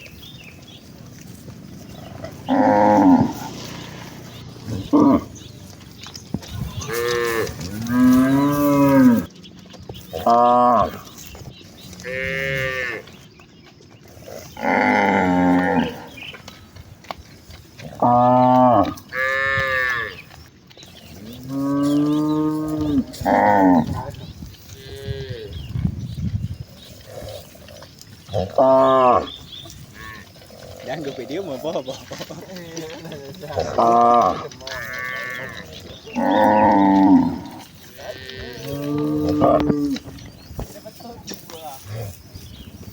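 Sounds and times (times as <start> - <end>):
cows mooing: 0.8 - 13.4, 14.1 - 16.6, 17.8 - 42.9.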